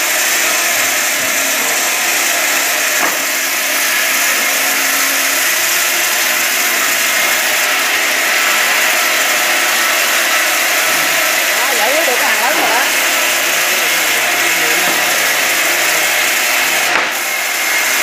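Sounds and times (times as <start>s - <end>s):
rip saw cutting wood: 0.0s - 18.0s.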